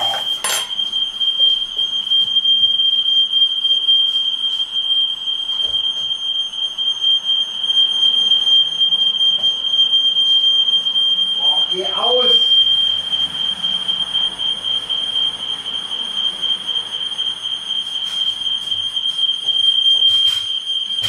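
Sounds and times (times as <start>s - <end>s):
smoke alarm high-pitched tone: 0.0s - 21.0s.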